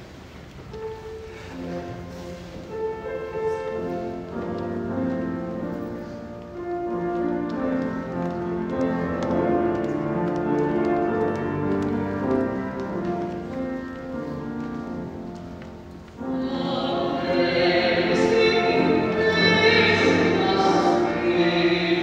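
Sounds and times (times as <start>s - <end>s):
organ playing sustained chords: 0.0s - 22.0s.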